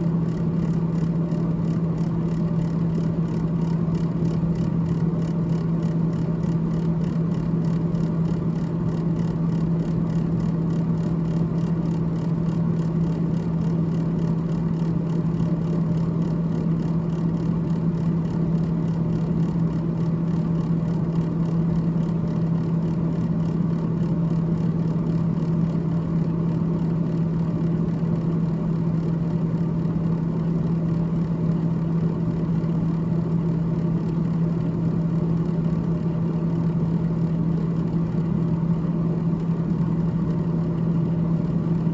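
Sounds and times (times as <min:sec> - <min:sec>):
constant low hum: 0:00.0 - 0:41.9
freezer fan whirring: 0:00.0 - 0:41.9.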